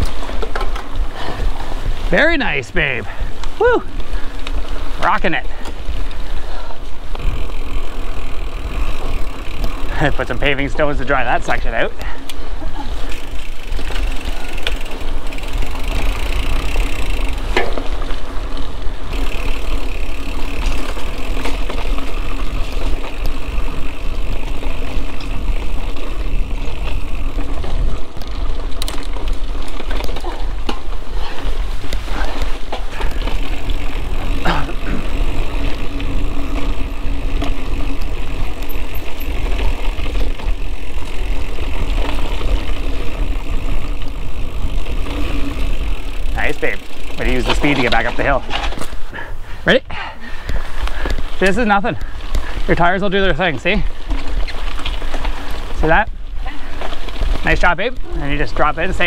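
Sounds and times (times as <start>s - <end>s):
bike knocking and rattling: 0.0s - 59.0s
bike riding rumble on dirt: 0.0s - 59.0s.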